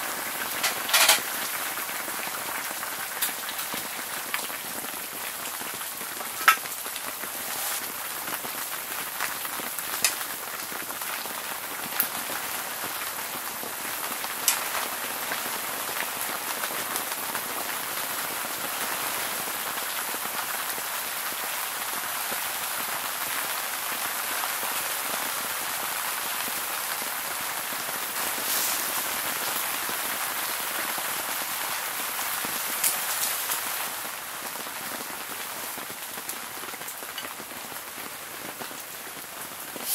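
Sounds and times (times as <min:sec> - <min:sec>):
heavy rain drumming on tent: 0:00.0 - 0:39.9.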